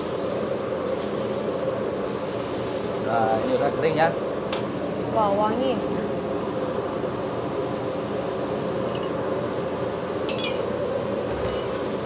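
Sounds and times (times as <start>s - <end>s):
gas burner rushing: 0.0s - 5.2s, 5.8s - 12.0s.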